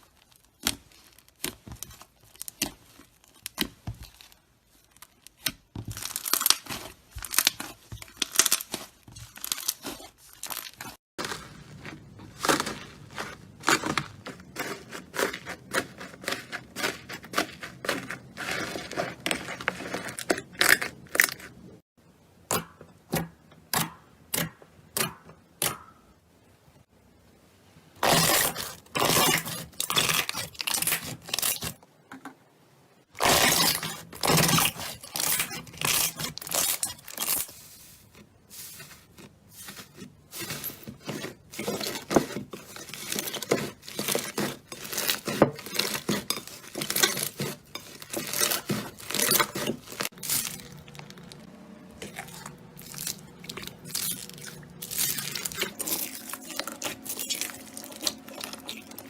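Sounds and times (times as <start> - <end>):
slime crackling and popping: 0.0 - 21.6, 33.2 - 59.0.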